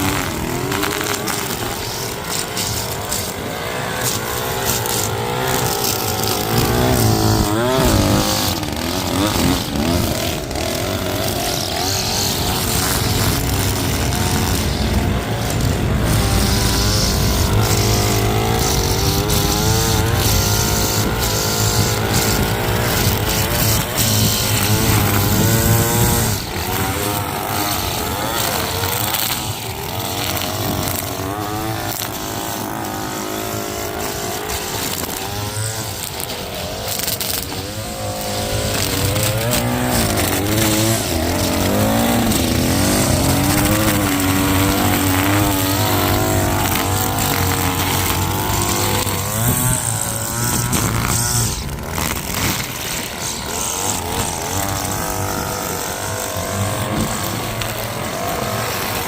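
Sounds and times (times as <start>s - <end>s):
small gasoline engine under load: 0.0s - 59.0s.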